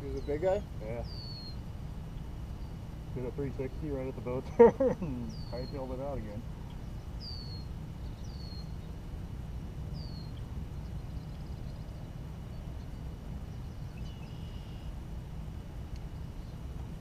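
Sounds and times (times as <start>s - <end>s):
small birds calling: 0.0s - 17.0s
steady low rumble: 0.0s - 17.0s.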